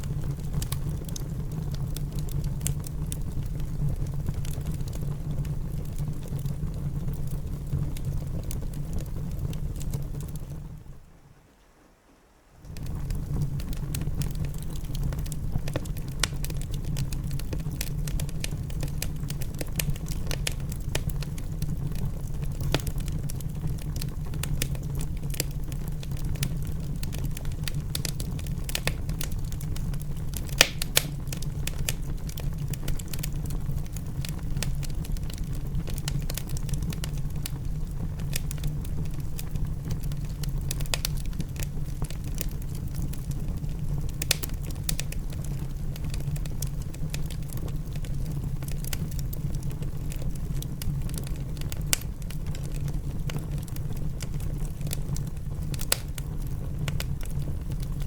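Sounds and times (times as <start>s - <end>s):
wood fire crackling: 0.0s - 11.8s, 12.5s - 58.0s.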